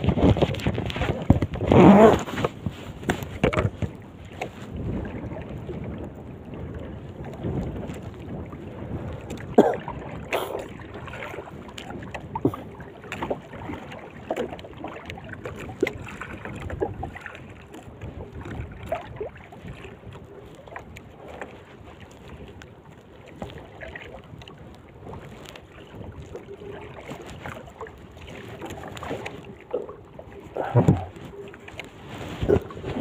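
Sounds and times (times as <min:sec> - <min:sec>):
knocks and splashes: 0:00.0 - 0:22.5, 0:23.2 - 0:33.0
water lapping against boat hull: 0:00.0 - 0:33.0.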